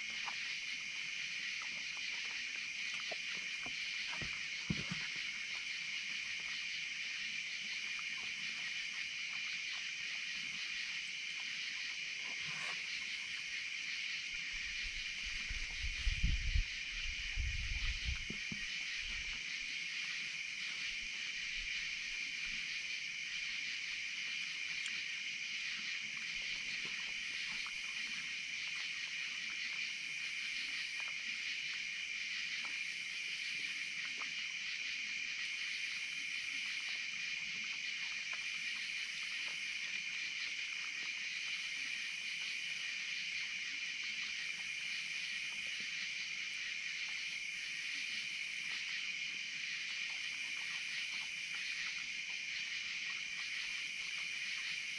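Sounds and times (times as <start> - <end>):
night insect chorus buzzing: 0.0 - 54.9
pulsing high insect trill: 0.0 - 54.9.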